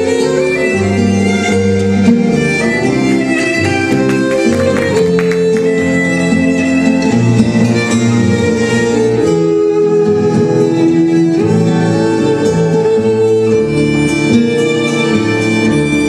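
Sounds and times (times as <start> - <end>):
tango music: 0.0 - 16.0.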